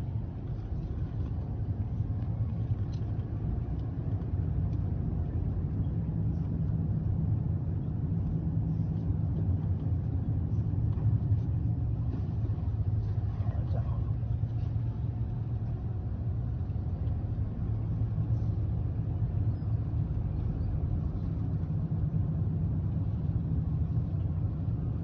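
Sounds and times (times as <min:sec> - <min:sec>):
road vehicle rumble: 0:00.0 - 0:25.0.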